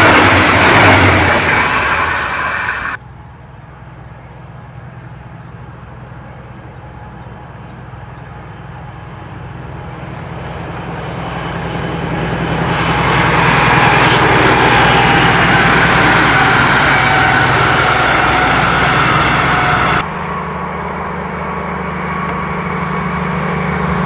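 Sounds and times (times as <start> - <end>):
diesel locomotive engine droning: 0.0 - 24.0.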